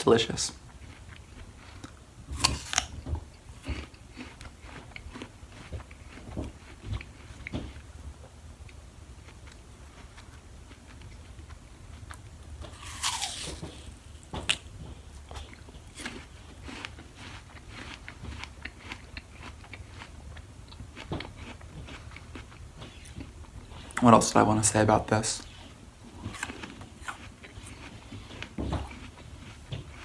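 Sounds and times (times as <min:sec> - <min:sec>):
apple crunching being chewed: 0:00.0 - 0:30.0.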